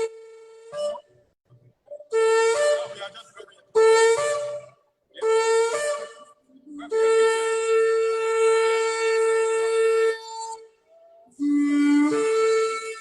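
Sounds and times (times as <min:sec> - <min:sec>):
shofar blasts: 0:00.0 - 0:01.1, 0:01.9 - 0:13.0.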